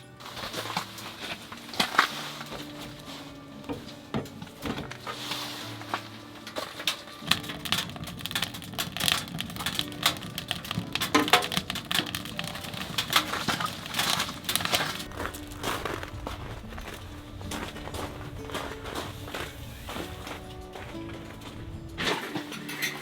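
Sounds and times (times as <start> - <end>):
firewood crackling and popping: 0.0 - 23.0
soft background music: 0.0 - 23.0.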